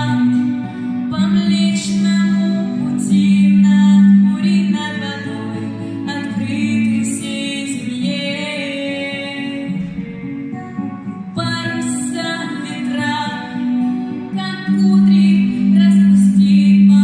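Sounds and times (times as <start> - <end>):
acoustic guitar: 0.0 - 17.0
woman singing: 0.0 - 17.0.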